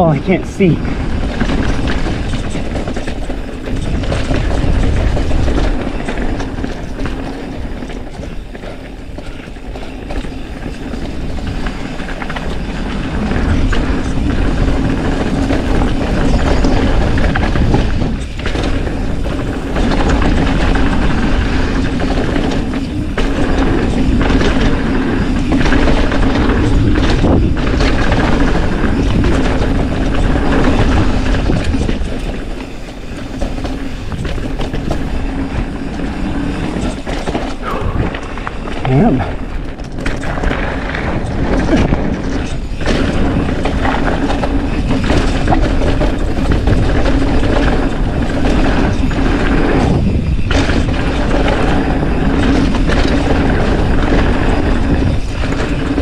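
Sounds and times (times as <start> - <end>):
bike rattling over bumps: 0.0 - 56.0
bike tyres rumbling on dirt: 0.0 - 56.0.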